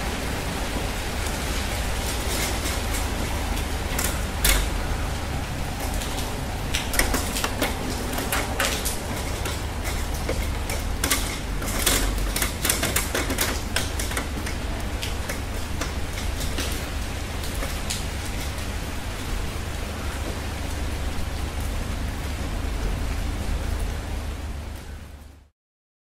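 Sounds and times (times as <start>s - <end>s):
raindrops tapping a hard surface: 0.0s - 24.9s
rain hiss: 0.0s - 25.5s.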